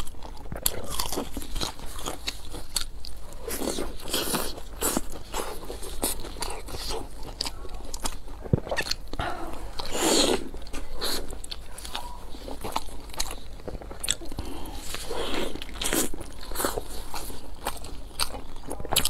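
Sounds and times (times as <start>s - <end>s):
chewing with wet mouth clicks: 0.0s - 19.0s
crunchy bites: 0.0s - 19.0s.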